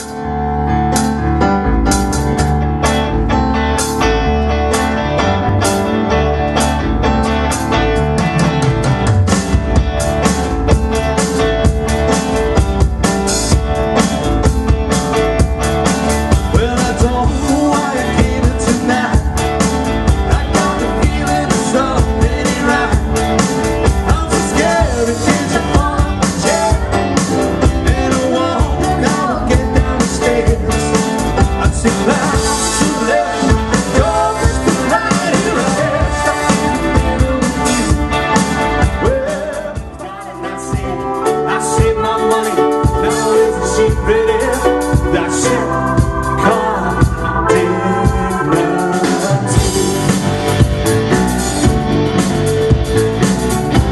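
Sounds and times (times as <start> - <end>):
bass guitar: 0.0 - 53.9
electric guitar: 0.0 - 53.9
keyboards: 0.0 - 53.9
drum kit steady beat: 4.7 - 53.9.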